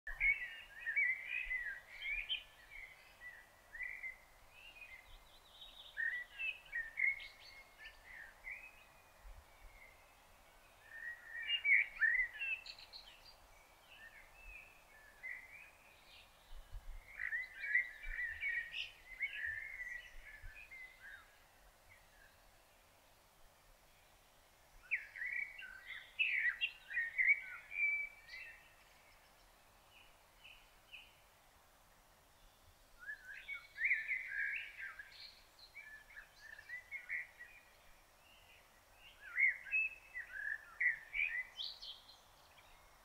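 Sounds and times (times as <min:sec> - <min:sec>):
songbirds twittering: 0:00.1 - 0:43.0.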